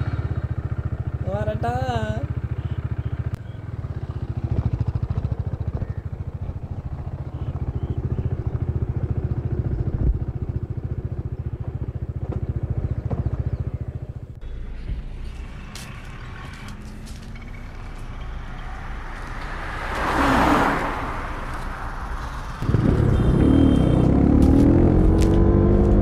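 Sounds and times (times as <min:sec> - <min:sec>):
motorcycle engine running: 0:00.0 - 0:19.8, 0:21.5 - 0:26.0
street background: 0:00.0 - 0:26.0.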